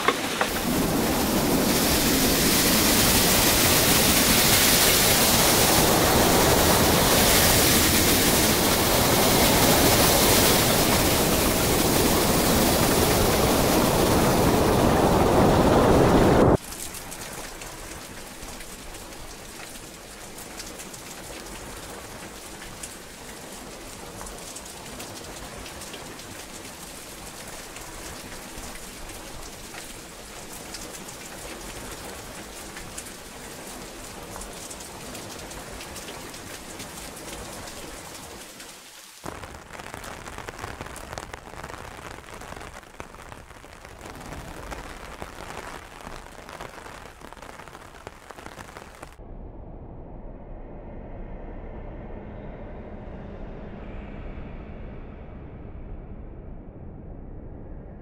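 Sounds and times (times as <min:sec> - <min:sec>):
rain pattering: 0:00.0 - 0:49.2.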